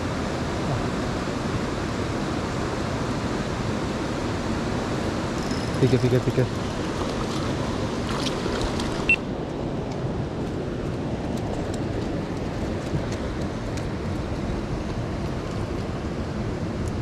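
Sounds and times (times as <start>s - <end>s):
river flowing over boulders: 0.0s - 17.0s.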